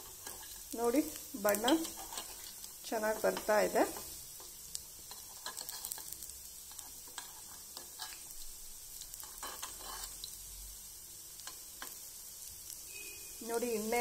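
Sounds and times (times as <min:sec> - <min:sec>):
batter sizzling in oil: 0:00.0 - 0:14.0.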